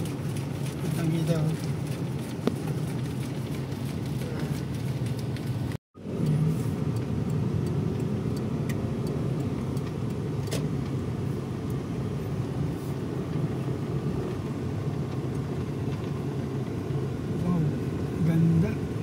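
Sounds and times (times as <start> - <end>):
car road rumble from inside: 0.0 - 19.0.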